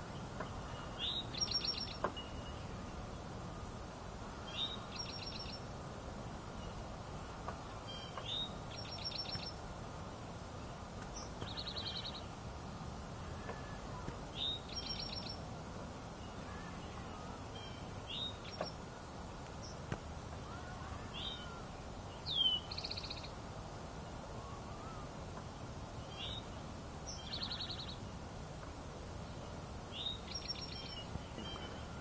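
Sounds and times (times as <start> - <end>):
low background noise: 0.0 - 32.0
songbird singing: 0.0 - 32.0.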